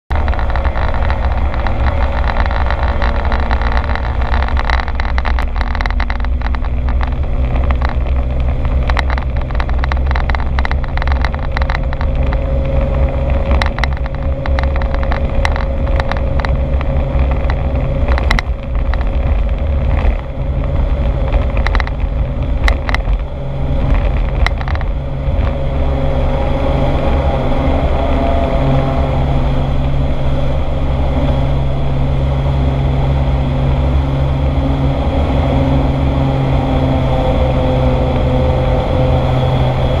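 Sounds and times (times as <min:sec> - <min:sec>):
airplane engine droning: 0:00.1 - 0:40.0
wheels rattling over dirt: 0:00.1 - 0:40.0.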